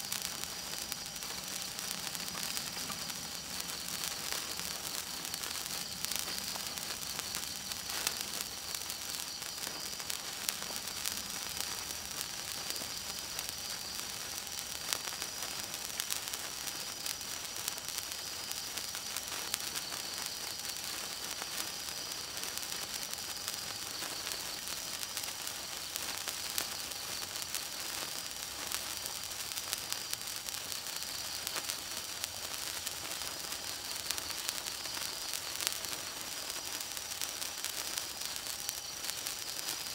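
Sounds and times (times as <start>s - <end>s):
sparkler hissing and crackling: 0.0s - 39.9s.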